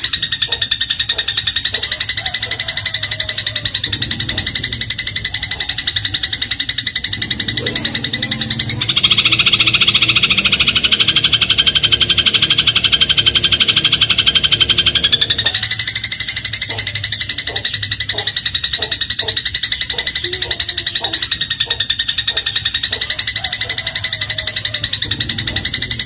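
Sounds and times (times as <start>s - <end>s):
sparrow chattering: 0.0s - 26.0s.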